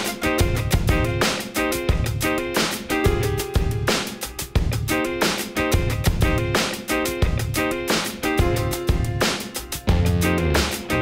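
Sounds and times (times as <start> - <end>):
guitar music with drum beat: 0.0 - 11.0.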